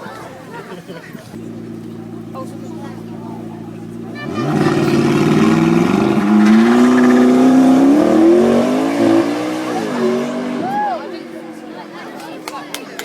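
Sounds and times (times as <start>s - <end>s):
sports car engine accelerating: 1.4s - 12.4s.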